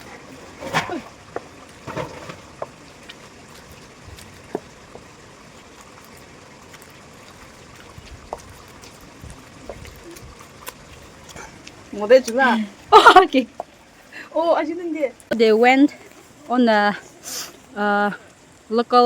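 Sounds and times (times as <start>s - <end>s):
trickling water: 0.0s - 19.0s.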